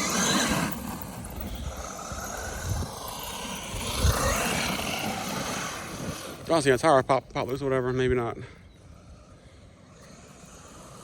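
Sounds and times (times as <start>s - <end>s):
rc truck motor whining: 0.0s - 11.0s
tires rumbling over rough ground: 0.0s - 11.0s.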